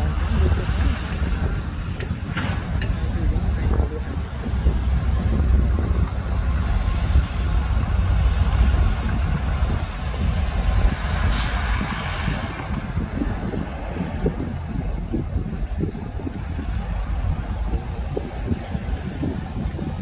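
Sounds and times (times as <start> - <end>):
diesel machinery rumbling: 0.0 - 20.0.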